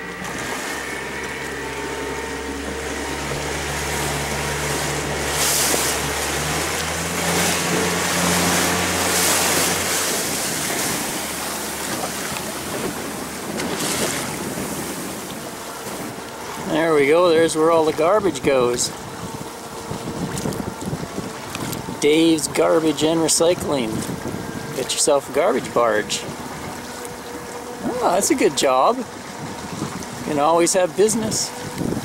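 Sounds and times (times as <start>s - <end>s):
outboard motor humming: 0.0s - 32.0s
water rushing: 0.0s - 32.0s
wind on microphone: 0.0s - 32.0s.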